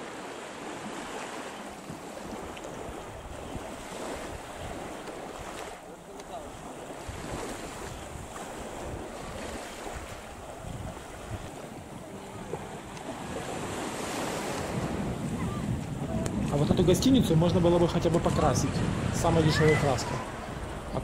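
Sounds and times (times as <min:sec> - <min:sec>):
small waves on sandy beach: 0:00.0 - 0:21.0
wind buffeting microphone: 0:01.8 - 0:21.0.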